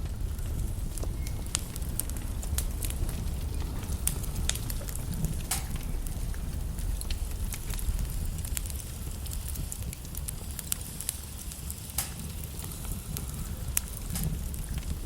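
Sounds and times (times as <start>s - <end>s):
logs crackling and popping: 0.0s - 15.0s
low fire rumble: 0.0s - 15.0s.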